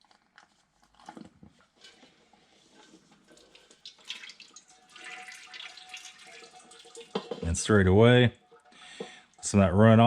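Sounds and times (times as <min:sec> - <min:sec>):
oil trickling and dripping: 0:00.2 - 0:10.0.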